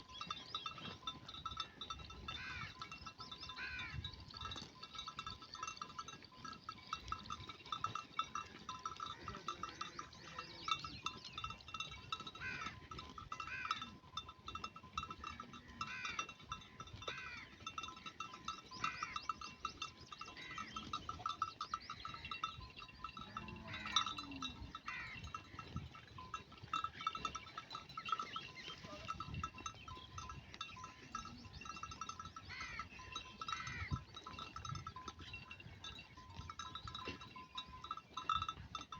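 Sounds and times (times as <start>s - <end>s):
sheep bells jingling: 0.0s - 38.9s.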